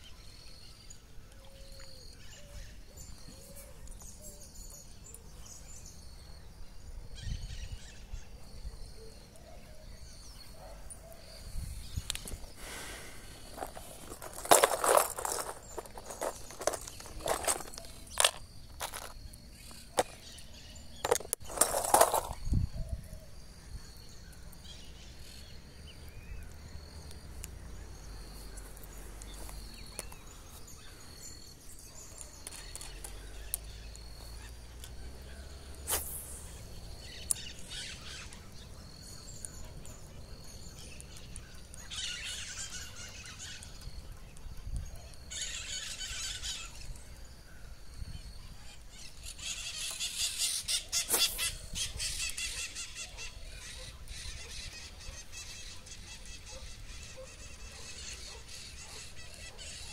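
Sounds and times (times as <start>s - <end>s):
bird chirping: 0.0s - 59.9s
harsh bird calls: 7.1s - 44.3s, 44.9s - 59.9s.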